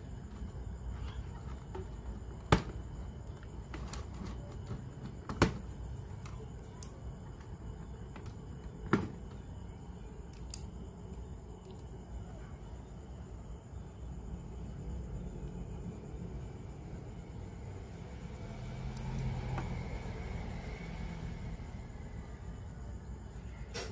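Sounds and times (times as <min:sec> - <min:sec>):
low steady hum: 0:00.0 - 0:23.9.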